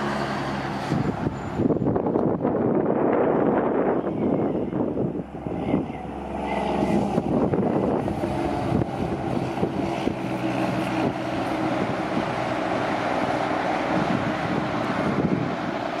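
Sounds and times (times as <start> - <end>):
diesel truck engine running: 0.0 - 16.0
road and wind noise: 0.0 - 16.0.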